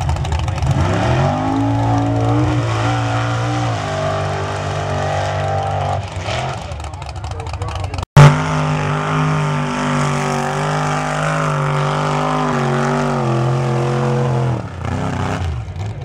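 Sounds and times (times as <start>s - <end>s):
engine revving in mud: 0.0s - 16.0s.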